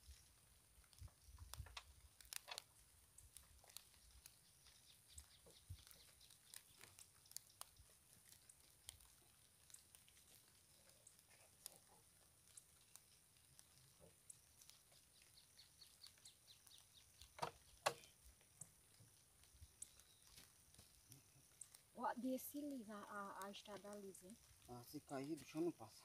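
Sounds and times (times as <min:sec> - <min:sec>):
soft clicks and rustles: 0:00.0 - 0:26.0.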